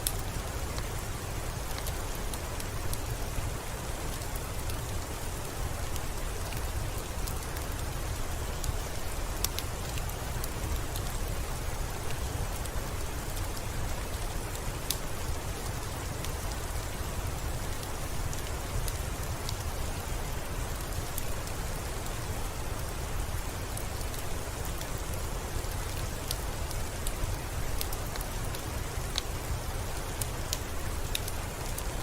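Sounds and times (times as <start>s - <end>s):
steady rain hiss: 0.0s - 32.0s.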